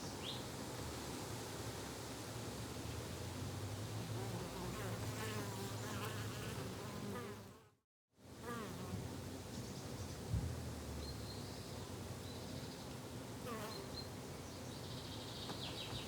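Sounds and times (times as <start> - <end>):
low garden background hum: 0.0 - 16.0.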